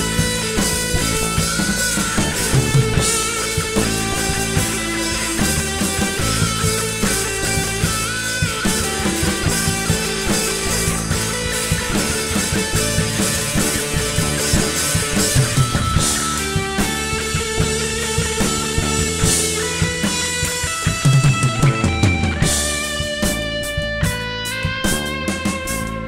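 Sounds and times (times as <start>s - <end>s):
drum kit playing: 0.0s - 26.0s
electric guitar playing: 0.0s - 26.0s.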